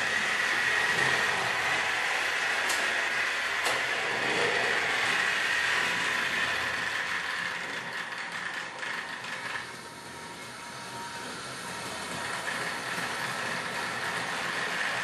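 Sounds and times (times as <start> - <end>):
model trains whirring: 0.0 - 15.0.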